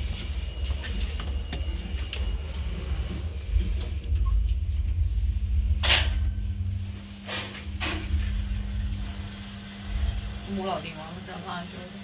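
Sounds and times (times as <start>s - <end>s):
elevator low rumble: 0.0s - 12.0s
steady hum: 0.0s - 12.0s.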